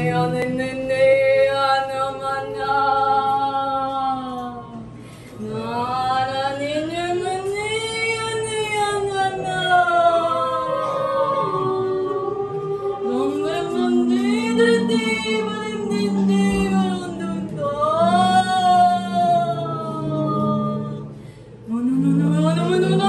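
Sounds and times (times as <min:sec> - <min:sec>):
lower held vocal part: 0:00.0 - 0:23.0
wordless group singing: 0:00.0 - 0:23.0.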